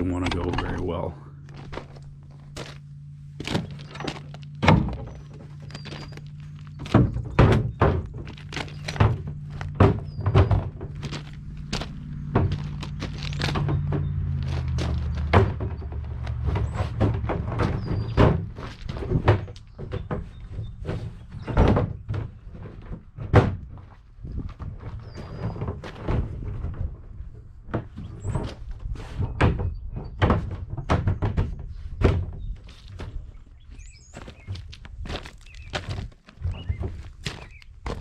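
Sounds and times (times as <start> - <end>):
plastic parts knocking and thudding: 3.4 - 38.0.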